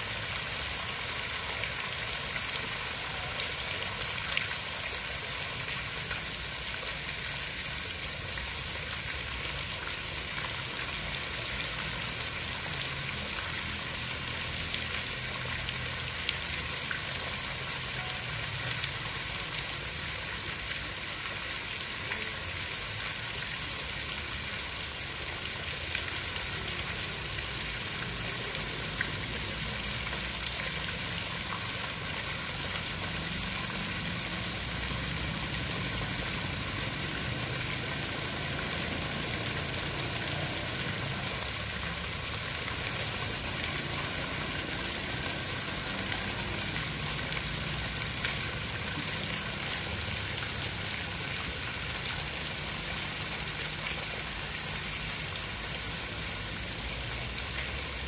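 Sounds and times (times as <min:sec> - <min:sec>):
steady water hiss: 0:00.0 - 0:58.0.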